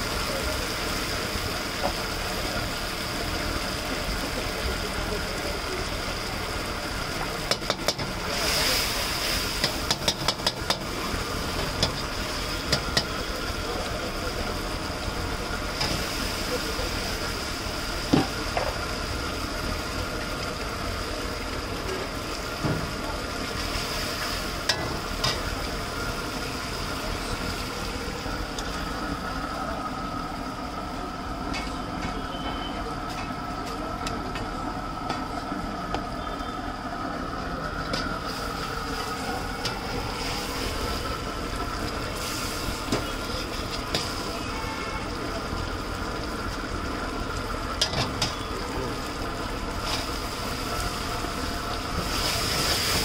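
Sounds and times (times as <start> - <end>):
food sizzling: 0.0 - 53.0.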